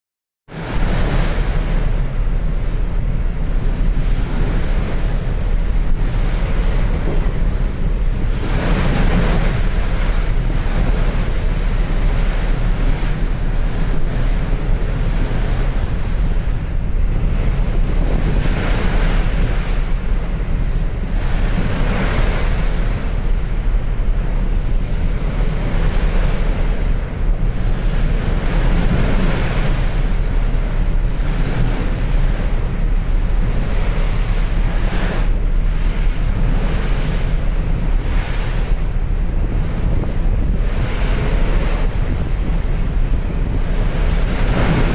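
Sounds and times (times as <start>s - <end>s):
sea water rushing: 0.5s - 44.9s
wind rushing over microphone: 0.5s - 44.9s
low rumble: 0.8s - 44.9s.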